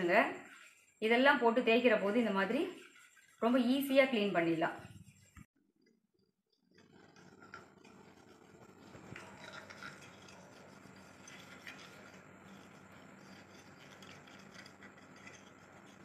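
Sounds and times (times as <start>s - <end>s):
metal lamp scrubbed in flour: 0.0s - 5.5s, 6.8s - 16.0s.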